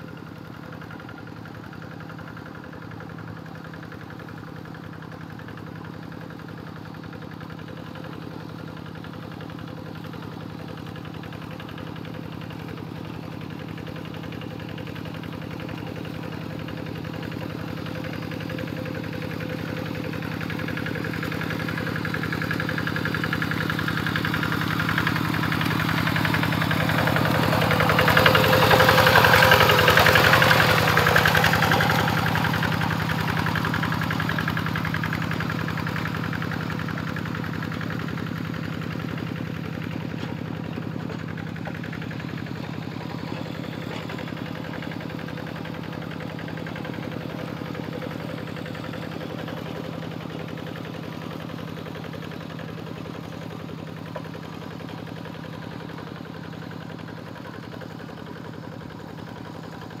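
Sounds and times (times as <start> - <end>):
diesel tractor engine running: 0.0 - 60.0.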